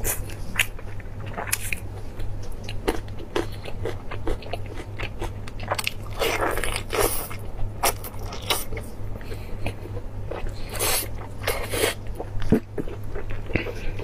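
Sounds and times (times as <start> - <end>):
chewing with wet mouth smacks: 0.0 - 14.0
steady low hum: 0.0 - 14.0.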